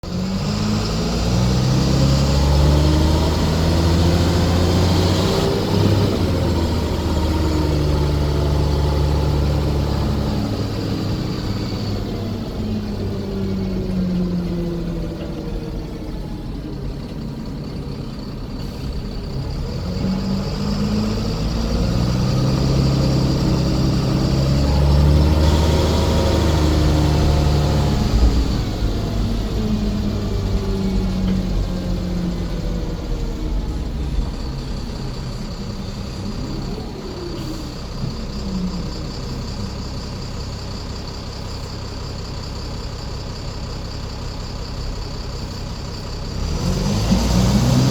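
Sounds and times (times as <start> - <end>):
diesel bus engine accelerating: 0.0 - 47.9.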